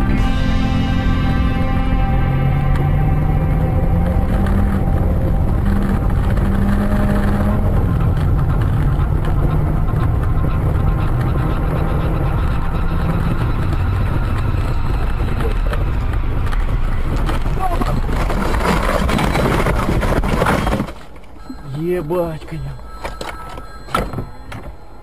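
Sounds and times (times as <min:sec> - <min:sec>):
car engine hum: 0:00.0 - 0:25.0
road noise: 0:00.0 - 0:25.0.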